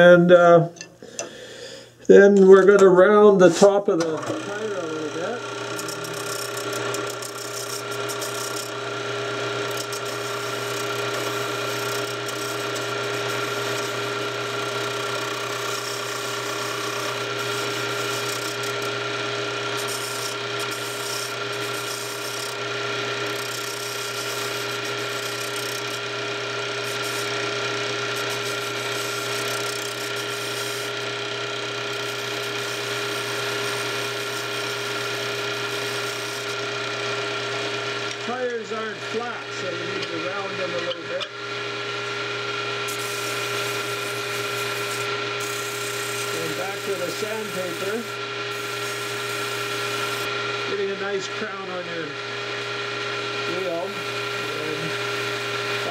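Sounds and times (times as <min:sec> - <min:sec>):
lathe humming: 0:01.1 - 0:55.9
turning tool scraping wood: 0:02.5 - 0:55.9.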